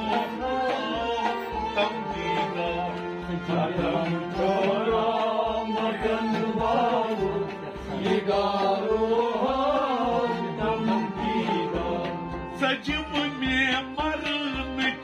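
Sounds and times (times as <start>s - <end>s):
drum beat: 0.0s - 15.0s
harmonium melody: 0.0s - 15.0s.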